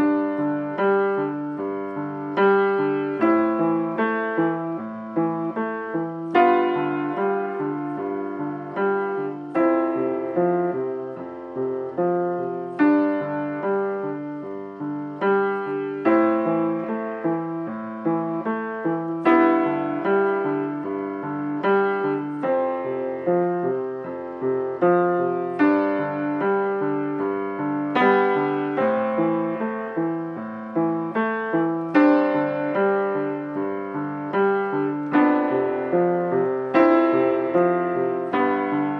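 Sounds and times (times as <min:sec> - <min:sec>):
upright piano playing: 0:00.0 - 0:38.9.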